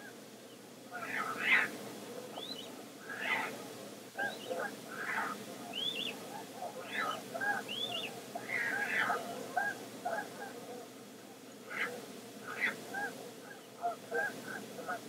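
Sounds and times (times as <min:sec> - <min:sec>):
terns and gulls calling: 0:00.0 - 0:15.0.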